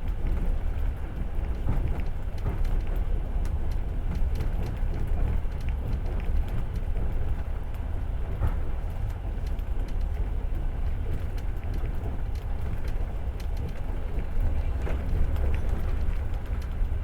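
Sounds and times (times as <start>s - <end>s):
light clicks and rattles: 0.0s - 17.0s
train wheels rumbling on rails: 0.0s - 17.0s.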